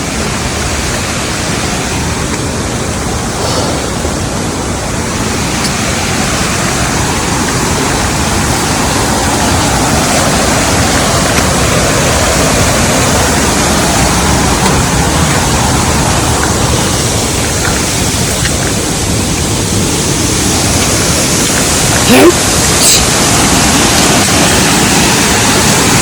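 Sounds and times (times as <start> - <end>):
water rushing from waterfall: 0.0 - 26.0.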